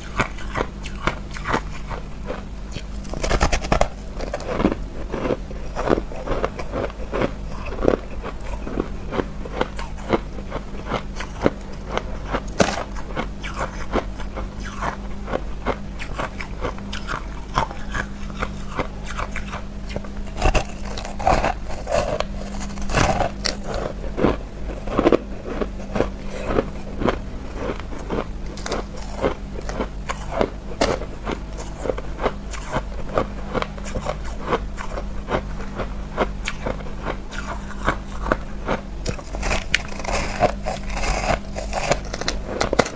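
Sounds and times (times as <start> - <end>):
chewing crushed ice crunches: 0.0 - 42.9
low hum: 0.0 - 42.9.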